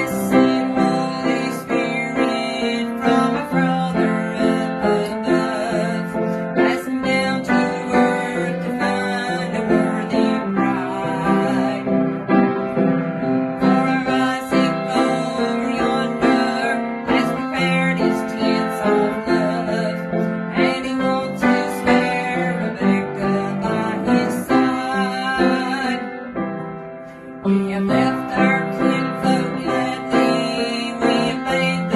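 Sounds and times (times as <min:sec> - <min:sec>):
keyboard playing gospel tune: 0:00.0 - 0:31.9.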